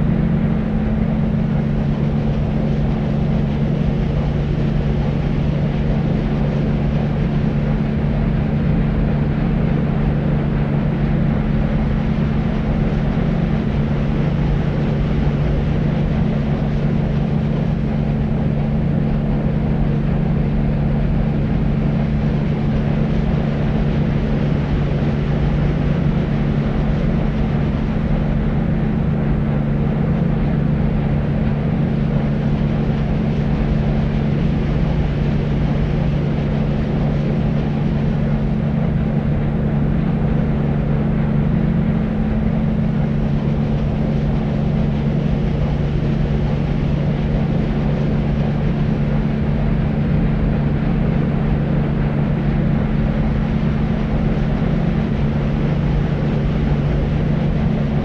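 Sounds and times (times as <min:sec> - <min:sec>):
deep rumbling white noise: 0:00.0 - 0:58.0
steady hum: 0:00.0 - 0:58.0.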